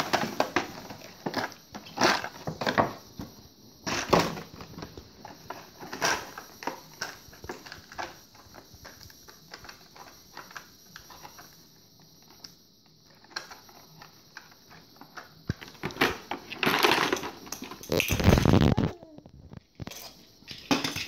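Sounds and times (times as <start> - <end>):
plastic toys clicking and tapping: 3.9 - 21.0.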